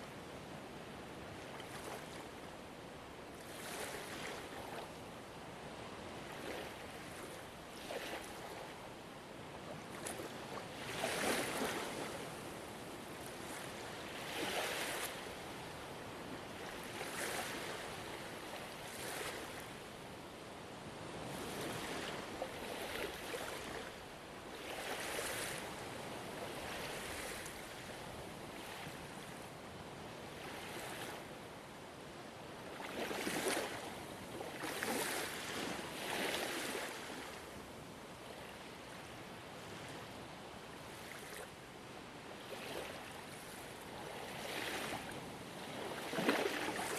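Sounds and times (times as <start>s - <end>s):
ocean waves washing on shore: 0.0s - 46.9s.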